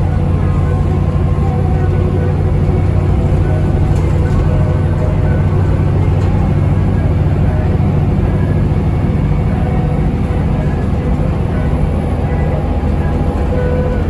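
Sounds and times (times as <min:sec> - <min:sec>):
bus diesel engine running: 0:00.0 - 0:14.0
road and body noise: 0:00.0 - 0:14.0.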